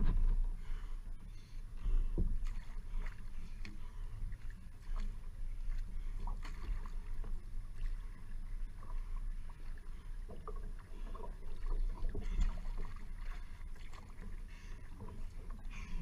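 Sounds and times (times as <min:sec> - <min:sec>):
low rumble: 0:00.0 - 0:16.0
paddle splashing through water: 0:02.2 - 0:16.0.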